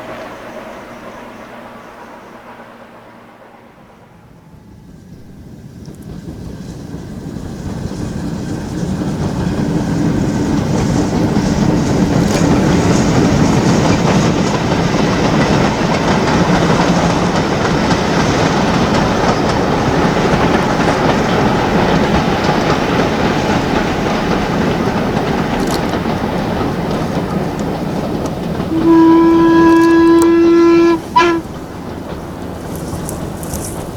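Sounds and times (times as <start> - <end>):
steam train passing: 0.0 - 33.9
wheels clattering over rail joints: 5.0 - 33.9.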